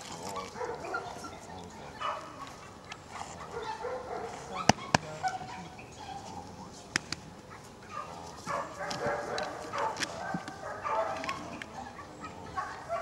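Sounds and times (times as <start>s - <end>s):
dog barking and yelping: 0.3s - 2.4s, 3.1s - 6.3s, 7.5s - 13.0s.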